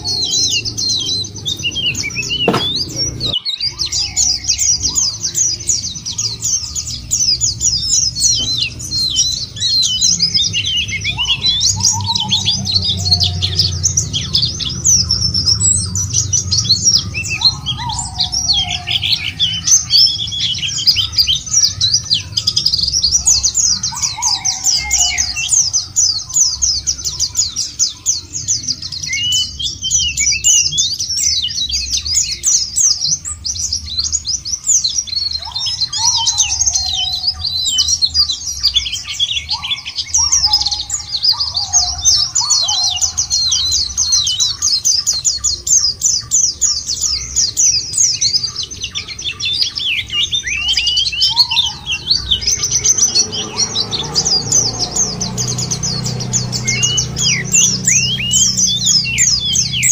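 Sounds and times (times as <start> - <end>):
birds twittering: 0.0 - 59.9.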